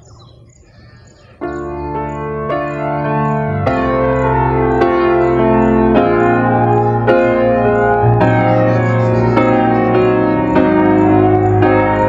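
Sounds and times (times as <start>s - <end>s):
keyboard chords over low note: 1.3s - 12.0s.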